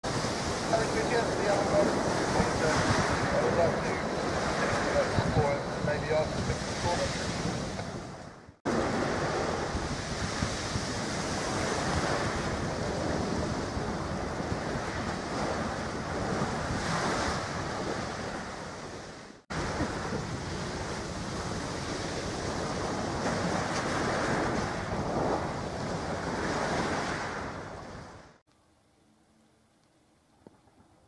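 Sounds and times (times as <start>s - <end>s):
water rushing: 0.0s - 28.4s
wind on microphone: 0.0s - 28.4s.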